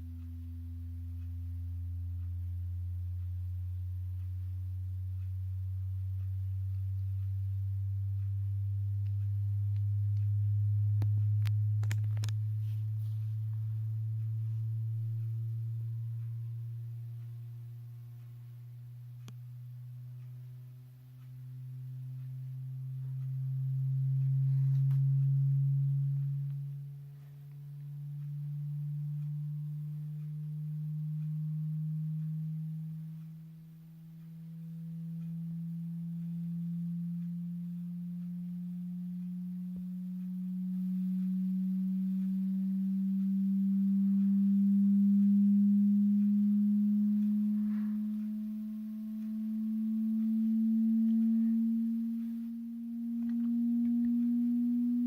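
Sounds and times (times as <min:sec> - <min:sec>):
sine tone rising in pitch: 0:00.0 - 0:55.0.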